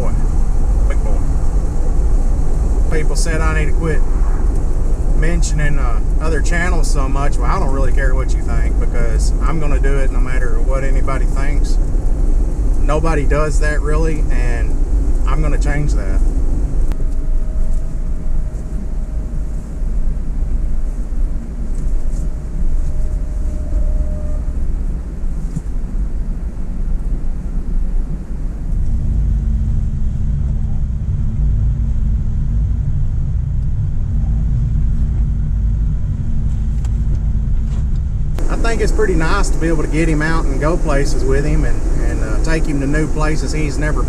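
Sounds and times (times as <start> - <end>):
low hum: 0.0 - 44.0
road and engine rumble in car cabin: 0.0 - 44.0.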